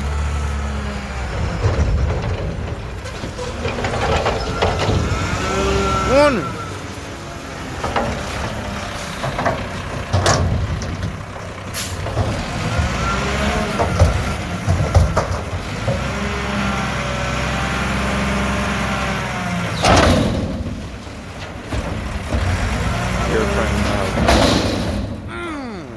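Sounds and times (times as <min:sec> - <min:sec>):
garbage truck engine rumbling: 0:00.0 - 0:25.9.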